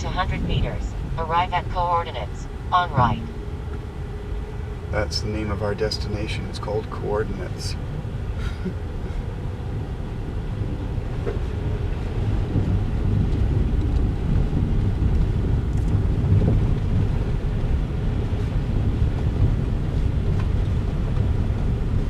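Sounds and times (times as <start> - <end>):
car road and tyre rumble: 0.0 - 22.0.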